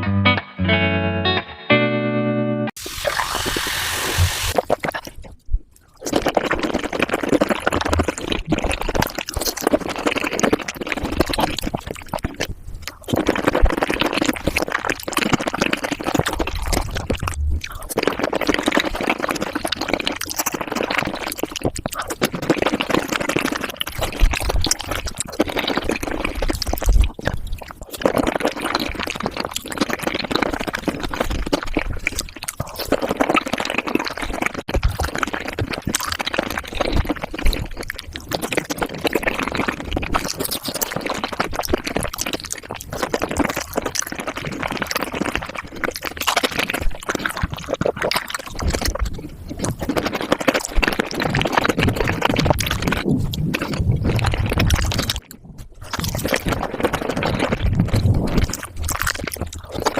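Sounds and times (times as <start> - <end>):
wet chewing and mouth sounds: 3.0 - 59.9.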